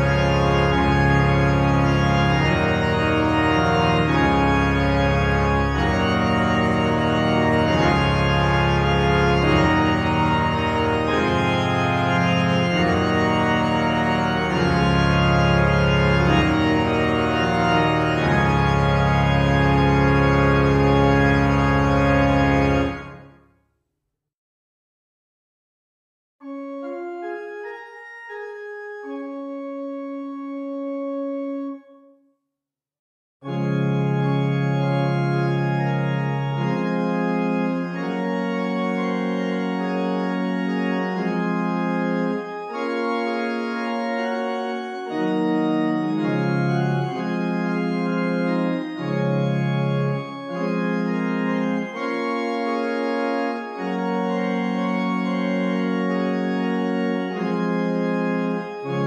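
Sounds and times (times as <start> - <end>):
pipe organ chords: 0.0 - 23.5, 26.4 - 32.2, 33.4 - 59.0.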